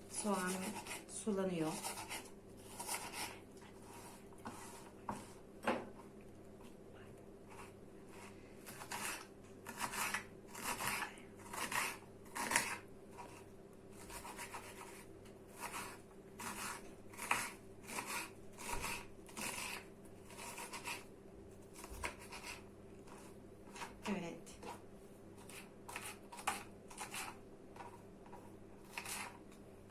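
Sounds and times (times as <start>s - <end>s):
knife slicing onion: 0.1s - 5.5s, 7.5s - 24.8s, 25.4s - 29.9s.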